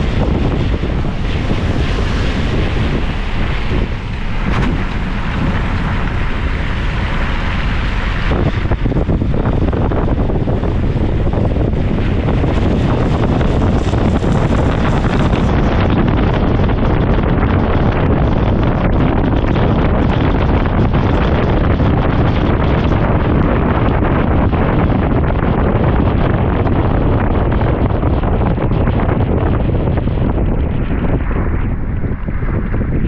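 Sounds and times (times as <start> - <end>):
vehicle running: 0.0 - 33.0
wind buffeting microphone: 0.0 - 33.0.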